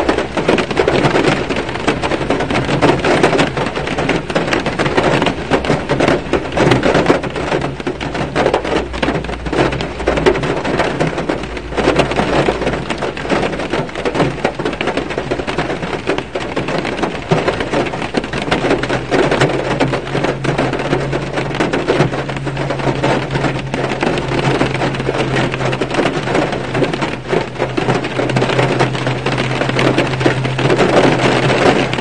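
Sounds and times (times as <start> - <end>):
rain on car roof: 0.0 - 32.0.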